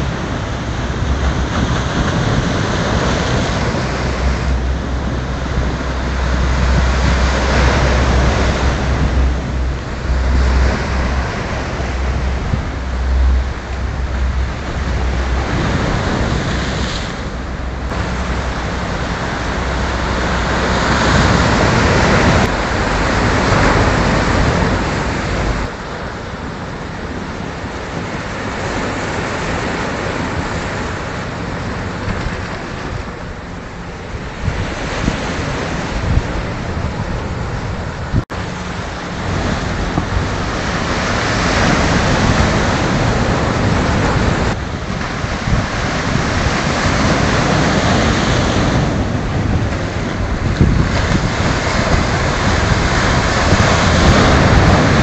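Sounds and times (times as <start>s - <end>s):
sea surf breaking on shore: 0.0s - 55.0s
wind rumbling on microphone: 0.0s - 55.0s.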